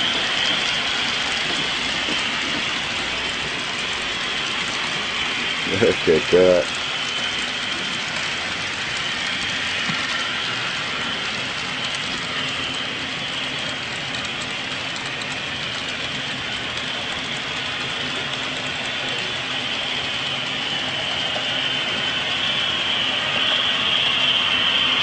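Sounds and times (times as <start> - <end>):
model train running with clicking: 0.0 - 25.0.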